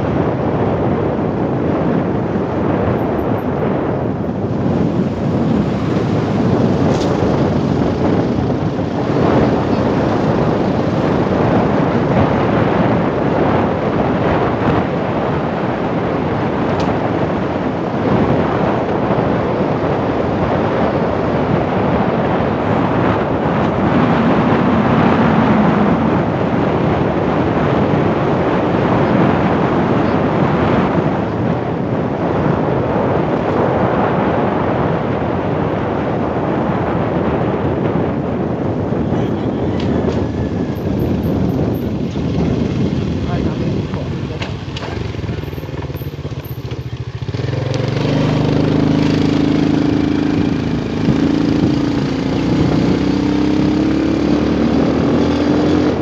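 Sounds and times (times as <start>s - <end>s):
motorcycle engine running: 0.0s - 33.4s, 36.6s - 56.0s
wind rushing over microphone: 0.0s - 56.0s.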